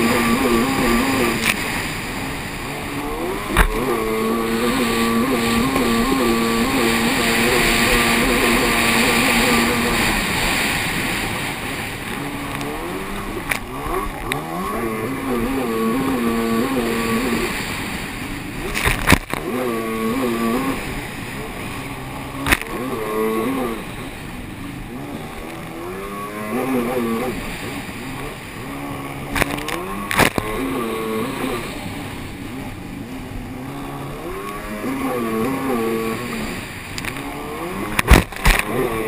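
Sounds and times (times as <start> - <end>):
jet ski engine revving: 0.0 - 39.0
wind and water rushing: 0.0 - 39.0.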